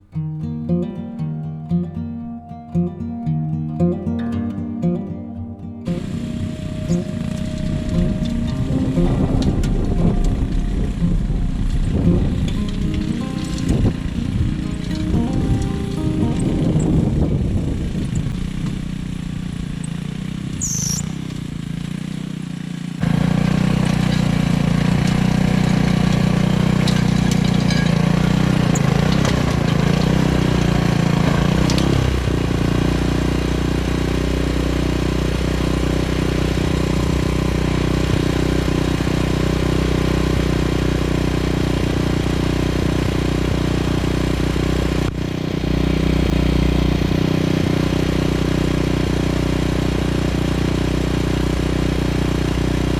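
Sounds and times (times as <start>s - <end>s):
rototiller engine running: 5.9s - 11.8s, 15.4s - 52.9s.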